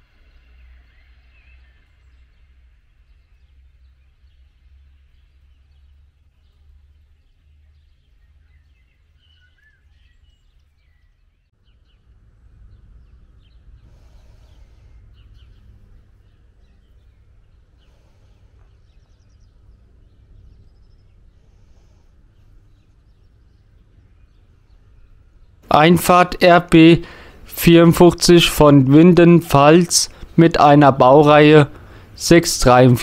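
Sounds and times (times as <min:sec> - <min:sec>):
low background rumble: 0:00.0 - 0:33.0
small birds twittering: 0:00.0 - 0:33.0.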